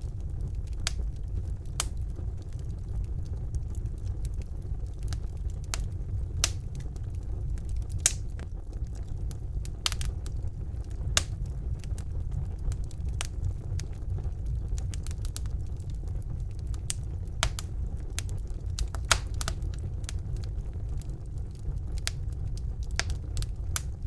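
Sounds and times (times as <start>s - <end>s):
fire flames rumbling: 0.0s - 24.0s
wood fire crackling and popping: 0.0s - 24.0s.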